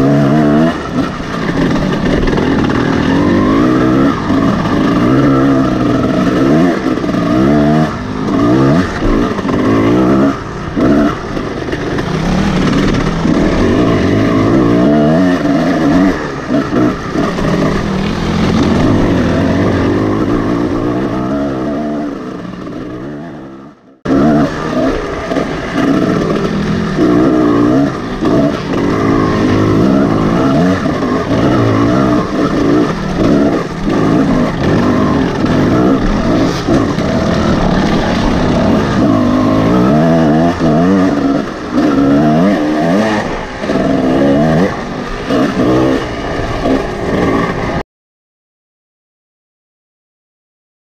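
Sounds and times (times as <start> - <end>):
dirt bike engine revving: 0.0 - 47.8.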